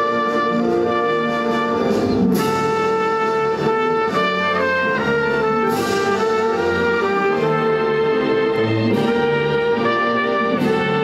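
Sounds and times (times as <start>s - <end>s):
orchestral music with brass: 0.0s - 11.0s.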